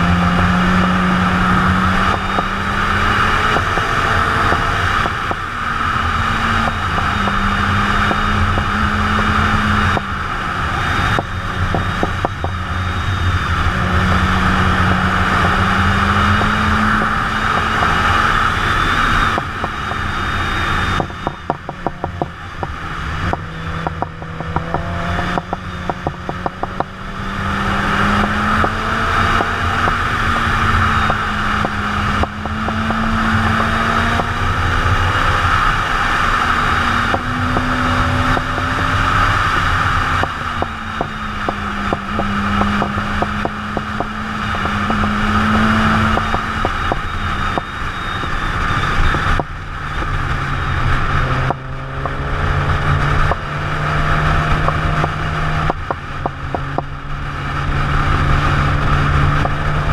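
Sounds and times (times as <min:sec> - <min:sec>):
motorcycle engine revving: 0:00.0 - 0:59.9
rapid engine ticking: 0:00.0 - 0:59.9.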